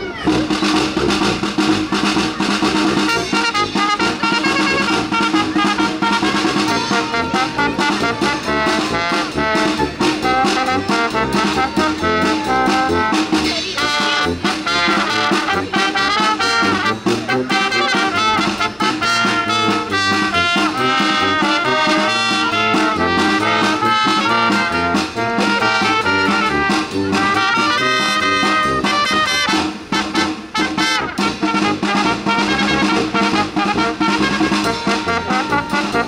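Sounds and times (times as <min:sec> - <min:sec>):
brass band playing: 0:00.0 - 0:36.0
steady drum beat: 0:00.0 - 0:36.0.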